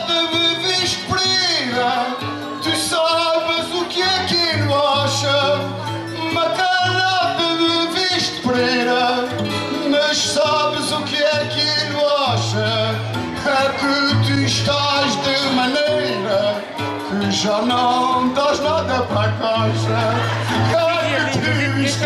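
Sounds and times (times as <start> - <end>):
plucked strings folk melody: 0.0 - 22.0.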